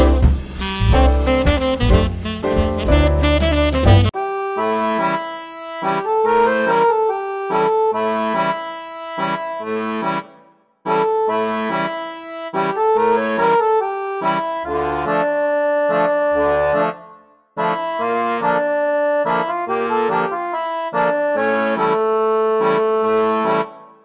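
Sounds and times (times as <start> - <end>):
bright rhythmic instrumental music: 0.0 - 24.0.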